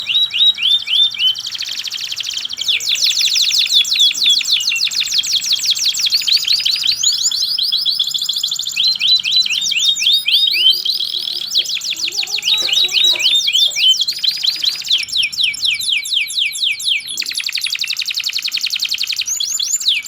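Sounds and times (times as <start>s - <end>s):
canary singing rolling trills: 0.0s - 20.0s.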